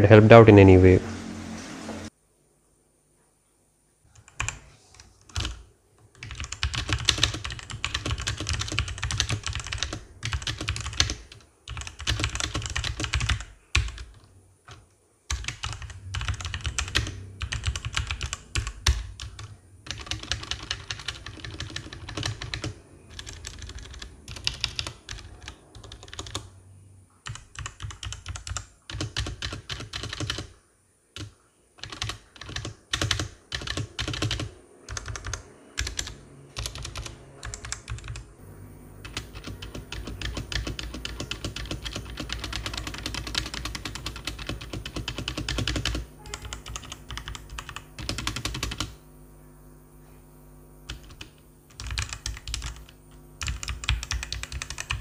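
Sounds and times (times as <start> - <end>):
mechanical keyboard typing: 4.2 - 4.6, 5.2 - 26.5, 27.2 - 30.5, 31.2 - 38.2, 39.0 - 49.0, 50.9 - 55.0.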